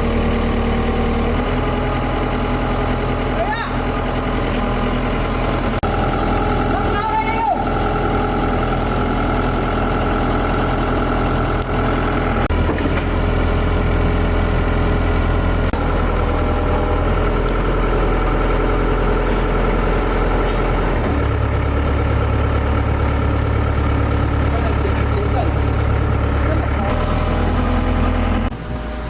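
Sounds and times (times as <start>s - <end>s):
large engine idling: 0.0s - 29.0s.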